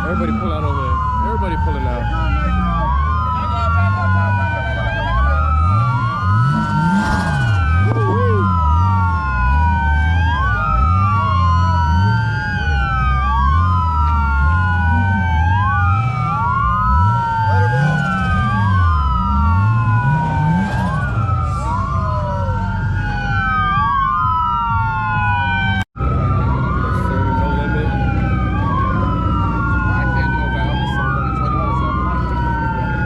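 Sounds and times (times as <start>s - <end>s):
police sirens wailing: 0.0s - 33.0s.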